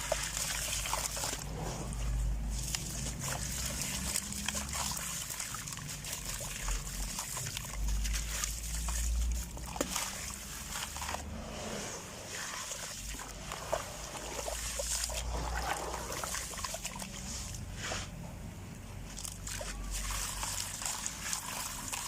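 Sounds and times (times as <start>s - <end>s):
grains trickling: 0.0s - 17.6s, 19.2s - 22.0s.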